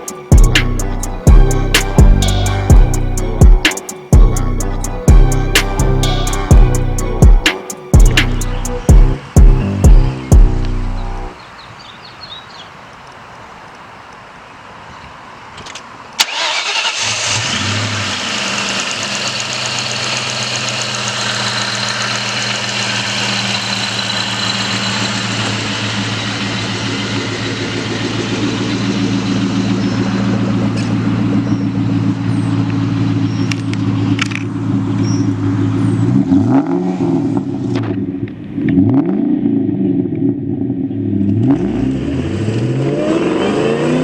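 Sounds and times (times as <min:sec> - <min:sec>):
car engine cranking and idling: 0:00.0 - 0:11.4, 0:16.2 - 0:42.4.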